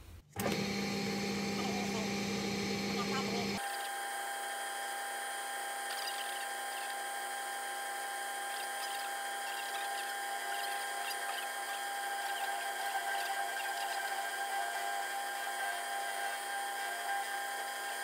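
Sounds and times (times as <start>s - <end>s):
lathe whine: 0.4s - 18.0s.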